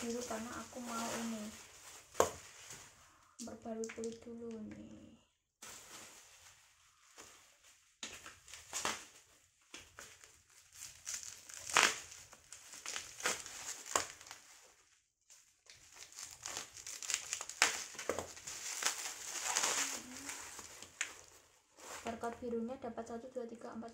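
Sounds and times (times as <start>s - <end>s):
bubble wrap crinkling: 0.0s - 4.6s, 5.6s - 22.6s.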